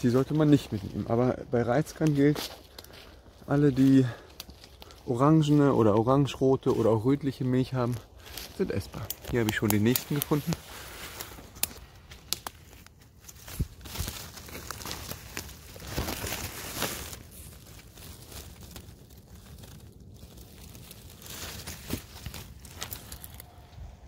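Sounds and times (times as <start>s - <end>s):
hand rustling moss and twigs: 0.0s - 24.0s.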